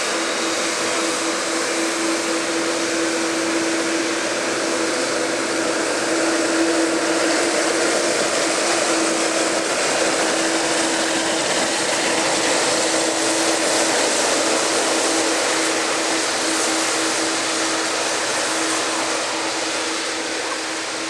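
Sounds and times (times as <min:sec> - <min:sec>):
jet aircraft engine rushing: 0:00.0 - 0:21.0.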